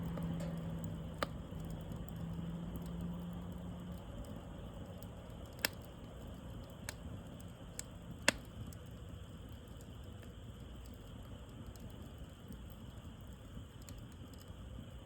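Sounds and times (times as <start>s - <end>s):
campfire rumble: 0.0s - 15.0s
wood crackling and popping: 0.0s - 15.0s.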